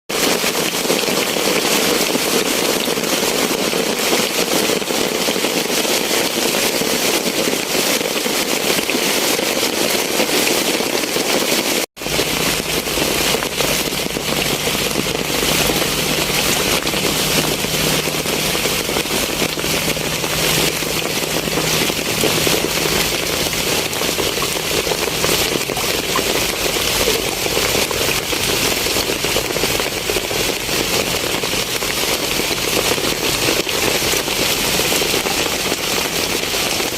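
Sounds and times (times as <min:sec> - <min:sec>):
heavy rain pouring: 0:00.1 - 0:36.9.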